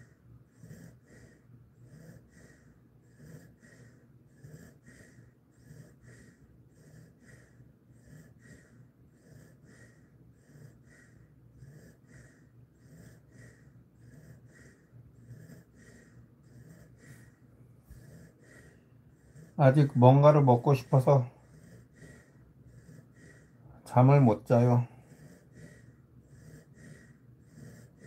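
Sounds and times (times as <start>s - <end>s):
dog breathing with soft wheeze: 0.0s - 28.0s.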